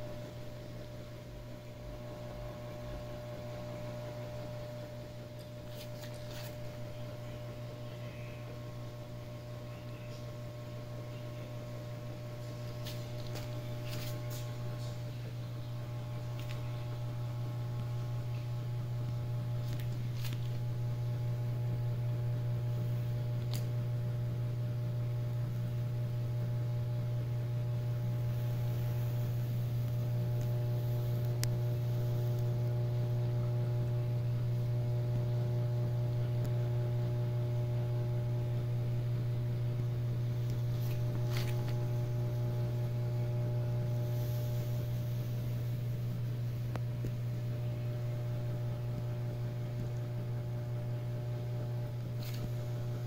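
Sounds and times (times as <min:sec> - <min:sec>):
aquarium equipment humming: 0:00.0 - 0:53.0.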